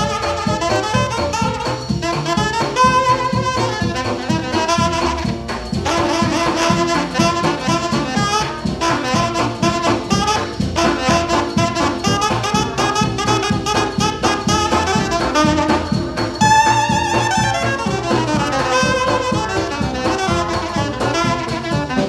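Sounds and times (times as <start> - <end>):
jazz on brass and reed horns: 0.0 - 22.0
steady beat: 0.0 - 22.0.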